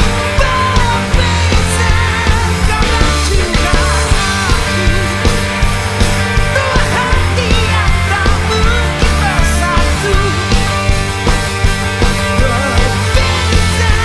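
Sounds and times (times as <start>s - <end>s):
drum beat: 0.0s - 14.0s
rock band playing live: 0.0s - 14.0s.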